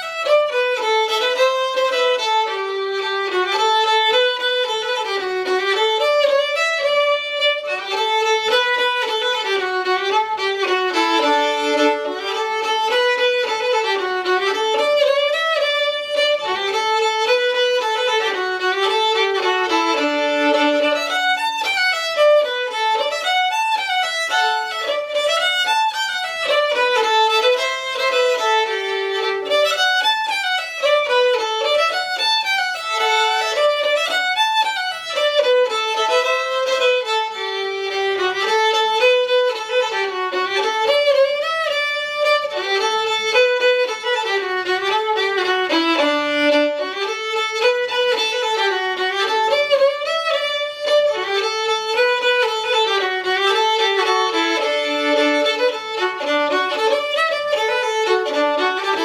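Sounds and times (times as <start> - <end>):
solo fiddle tune: 0.0 - 59.0.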